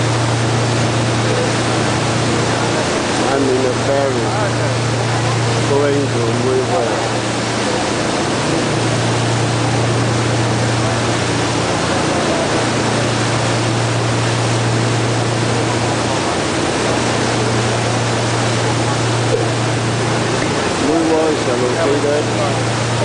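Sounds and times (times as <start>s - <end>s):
ferry engine hum: 0.0s - 23.0s
rush of wind and water: 0.0s - 23.0s.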